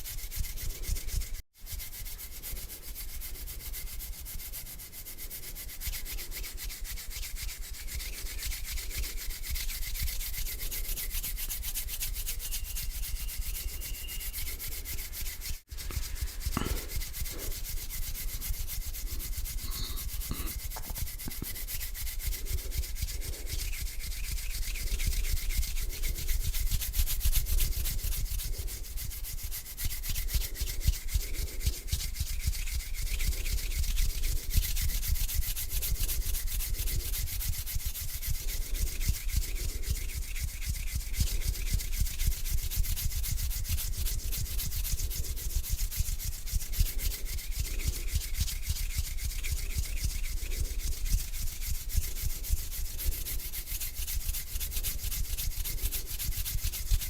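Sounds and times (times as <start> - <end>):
hands rubbing together: 0.0 - 57.0.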